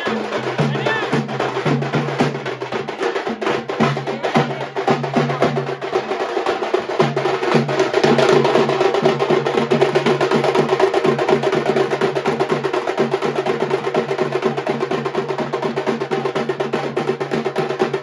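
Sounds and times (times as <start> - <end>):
fast drum-led band music: 0.0 - 18.0.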